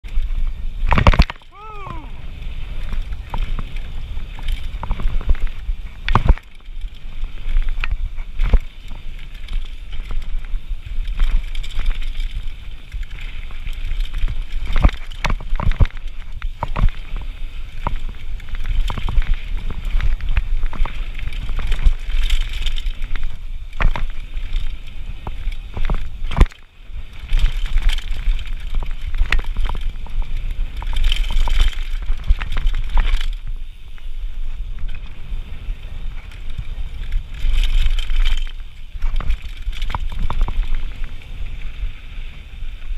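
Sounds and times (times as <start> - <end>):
bike knocks and clatter: 0.0 - 1.5, 2.8 - 33.5, 36.1 - 41.2
bike tyres rolling and skidding on dirt: 0.0 - 42.9.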